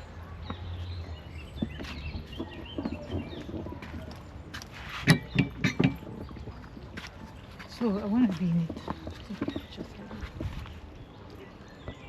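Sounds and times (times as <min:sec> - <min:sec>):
outdoor hum: 0:00.0 - 0:12.0
small birds chirping: 0:00.0 - 0:12.0.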